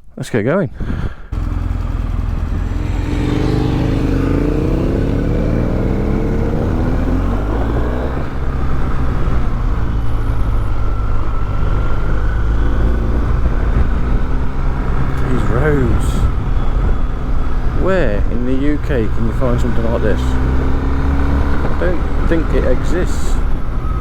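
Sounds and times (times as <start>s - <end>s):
wind and road noise: 0.6s - 24.0s
motorcycle engine accelerating: 1.3s - 24.0s.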